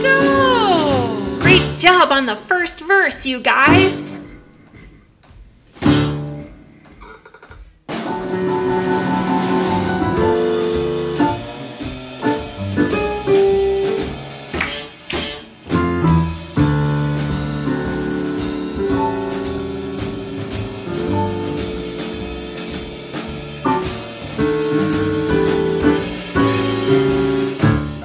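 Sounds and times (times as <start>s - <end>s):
jazz band playing blues: 0.0s - 4.3s, 7.9s - 28.0s.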